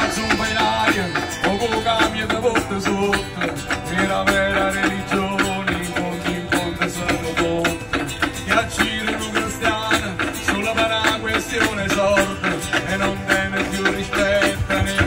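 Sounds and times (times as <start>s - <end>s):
acoustic guitars: 0.0s - 15.0s
hand percussion: 0.0s - 15.0s.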